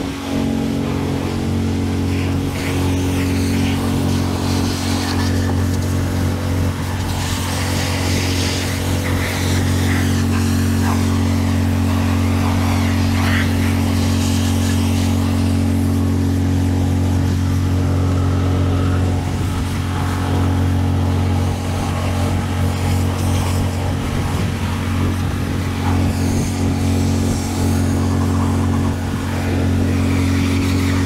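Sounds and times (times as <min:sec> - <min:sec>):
pressure washer engine drone: 0:00.0 - 0:31.0
water spray hissing: 0:00.1 - 0:31.0.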